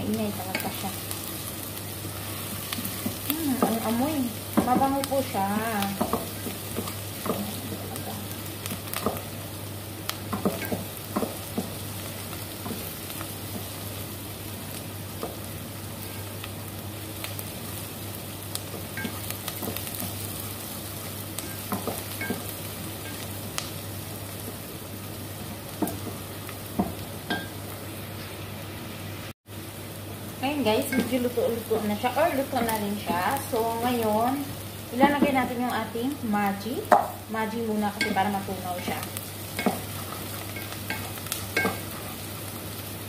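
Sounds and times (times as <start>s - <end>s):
onion and garlic sizzling in oil: 0.0s - 43.0s.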